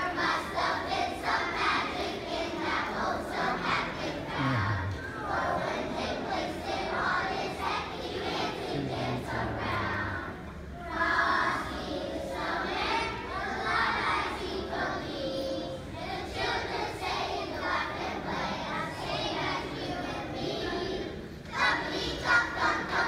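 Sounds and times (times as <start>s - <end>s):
audience chatter: 0.0s - 23.0s
children's choir singing: 0.0s - 23.0s.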